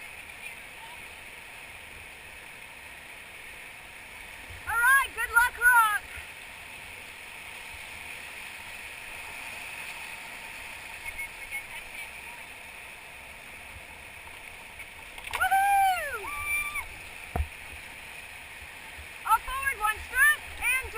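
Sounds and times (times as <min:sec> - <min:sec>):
whitewater rushing: 0:00.0 - 0:20.9.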